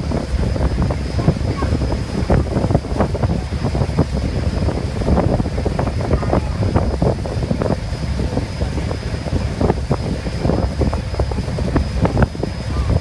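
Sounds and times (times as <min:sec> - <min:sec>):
boat engine rumble: 0:00.0 - 0:13.0
water rushing past hull: 0:00.0 - 0:13.0
wind buffeting microphone: 0:00.0 - 0:13.0.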